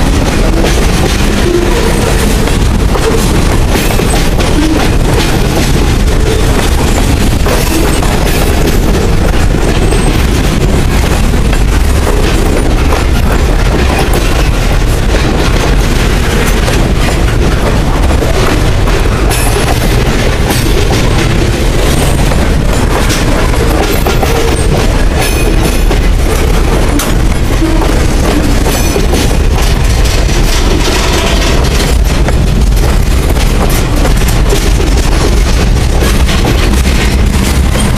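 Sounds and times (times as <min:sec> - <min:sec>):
train wheels rumbling on rail: 0:00.0 - 0:37.9
wheels clicking and clacking: 0:00.0 - 0:37.9.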